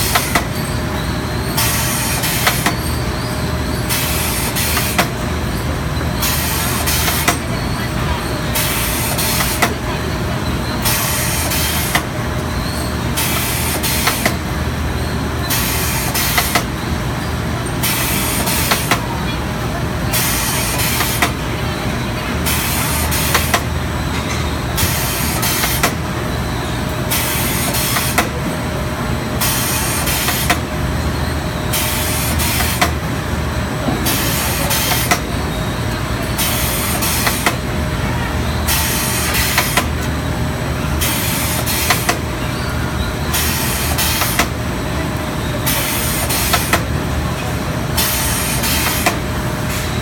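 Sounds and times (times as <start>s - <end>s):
factory noise: 0.0s - 50.0s.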